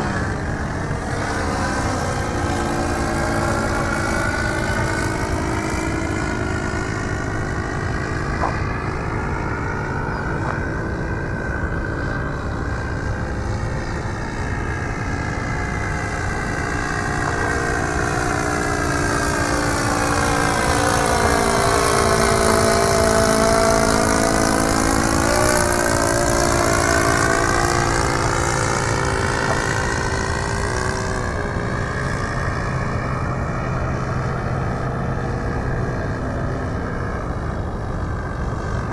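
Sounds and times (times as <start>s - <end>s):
propeller plane droning past: 0.0s - 38.9s.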